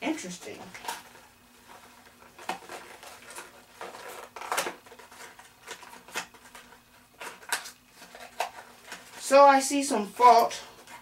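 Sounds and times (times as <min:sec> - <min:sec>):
magazines clattering: 0:00.4 - 0:09.6.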